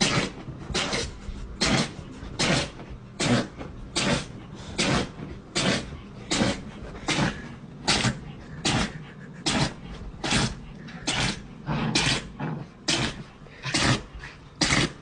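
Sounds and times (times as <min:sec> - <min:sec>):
dog sneezing: 0:00.0 - 0:11.4, 0:12.9 - 0:15.0.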